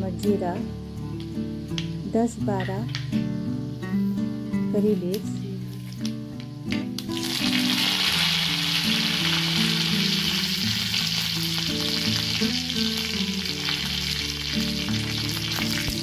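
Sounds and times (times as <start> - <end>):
leaves sizzling in hot oil: 0.0 - 16.0
soft background music: 0.0 - 16.0.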